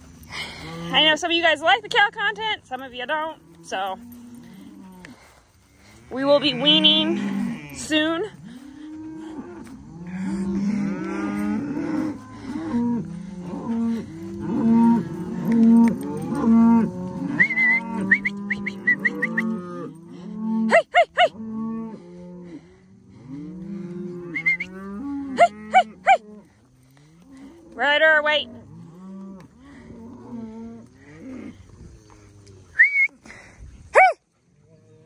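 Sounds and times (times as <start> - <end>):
cows mooing: 0.0 - 32.8.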